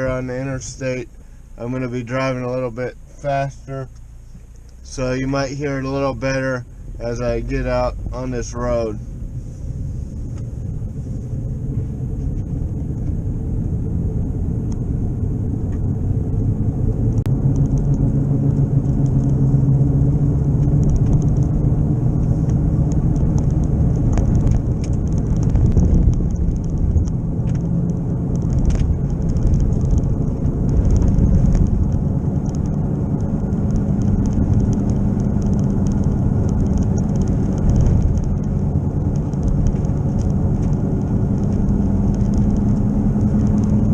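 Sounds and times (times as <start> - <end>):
low rumble of moving car: 0.0 - 43.9.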